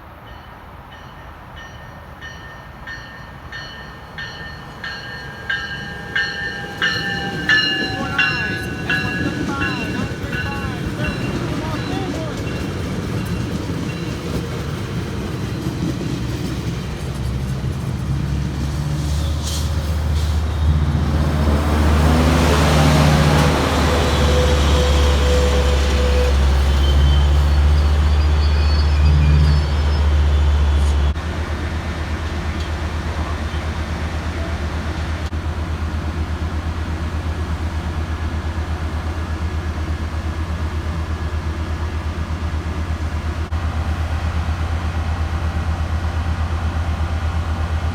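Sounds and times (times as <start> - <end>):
diesel train passing: 0.0 - 47.9.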